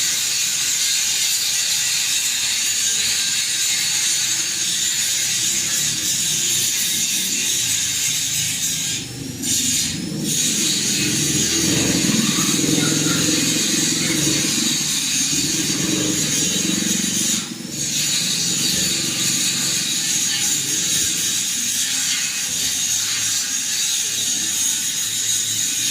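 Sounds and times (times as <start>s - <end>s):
fan motor rumble: 0.0s - 25.9s
fan blades rushing air: 2.0s - 25.9s.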